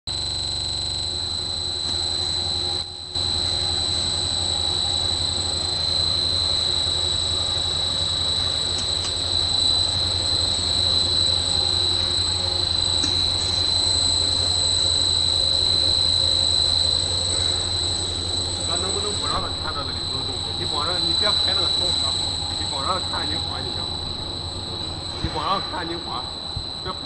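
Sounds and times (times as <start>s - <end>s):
high-pitched machine whine: 0.0s - 27.0s
machine hum: 0.1s - 27.0s.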